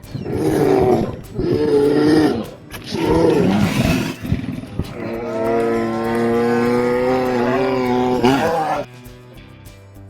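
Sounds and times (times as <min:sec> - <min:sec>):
bear roaring: 0:00.0 - 0:08.9.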